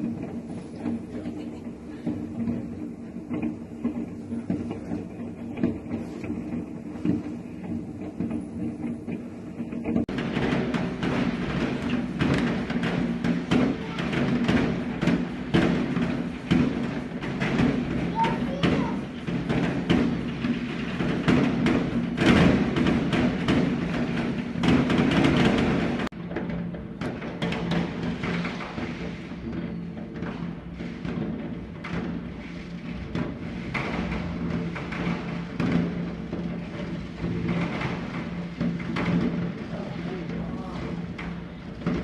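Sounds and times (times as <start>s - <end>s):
fireworks popping and banging: 0.0s - 42.0s.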